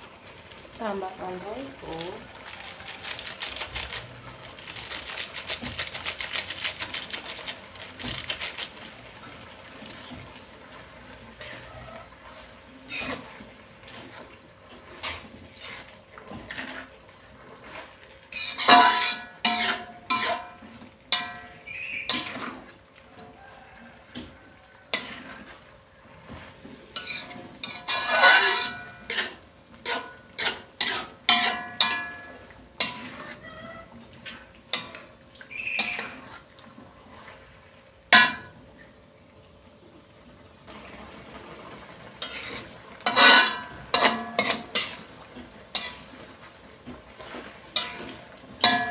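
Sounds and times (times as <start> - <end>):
metal spatula scraping a wok: 1.8 - 9.0, 9.8 - 23.3, 24.8 - 37.5, 42.1 - 48.9.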